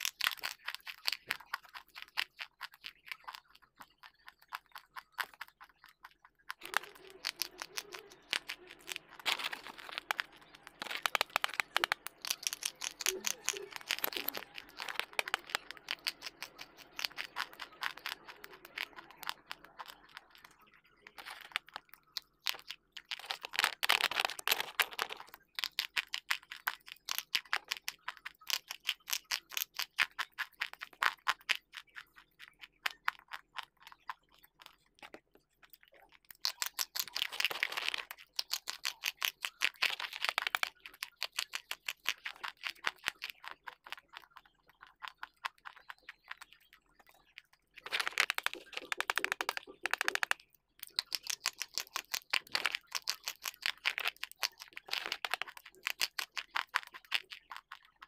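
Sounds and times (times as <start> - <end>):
brittle crunchy chewing: 0.0 - 58.0.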